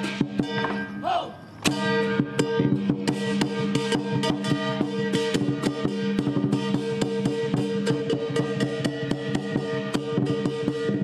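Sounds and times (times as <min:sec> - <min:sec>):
crashing hand cymbals: 0:00.0 - 0:11.0
drum beaten quickly: 0:00.0 - 0:11.0.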